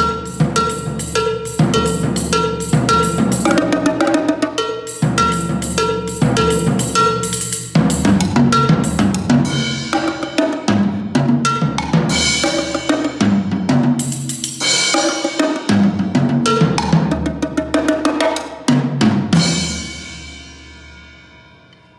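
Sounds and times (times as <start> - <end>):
fast drumming on toms: 0.0 - 20.2.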